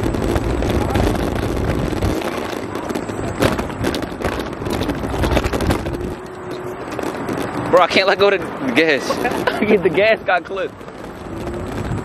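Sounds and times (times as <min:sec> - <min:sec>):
scooter road rattle: 0:00.0 - 0:12.0
wind buffeting microphone: 0:00.0 - 0:12.0.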